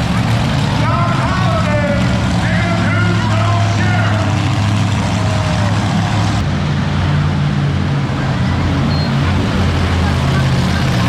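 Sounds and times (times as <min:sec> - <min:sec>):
truck engine running loud: 0:00.0 - 0:11.0.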